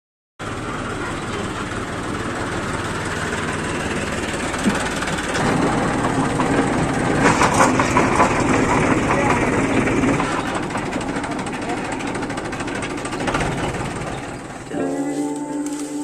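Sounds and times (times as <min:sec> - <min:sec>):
engine running steadily: 0:00.4 - 0:16.0.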